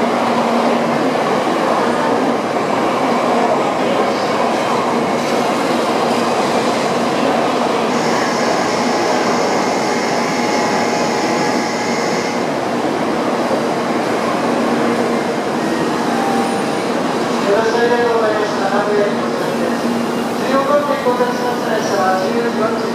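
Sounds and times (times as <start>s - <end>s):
train rolling on rails: 0.0s - 22.9s.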